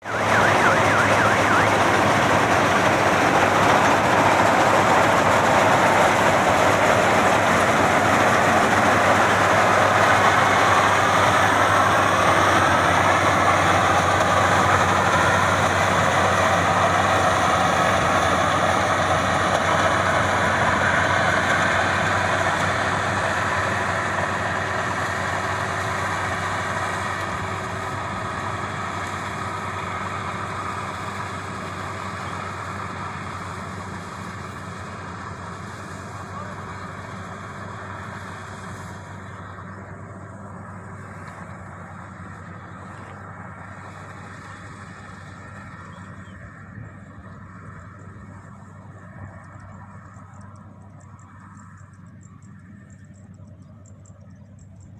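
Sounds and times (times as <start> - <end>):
combine harvester engine drone: 0.0 - 54.9.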